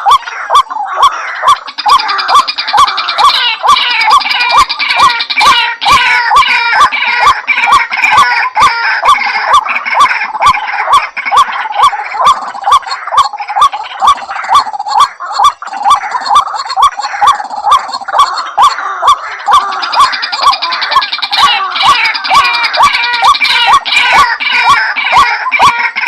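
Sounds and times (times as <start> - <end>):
waterhen calling: 0.0 - 26.0.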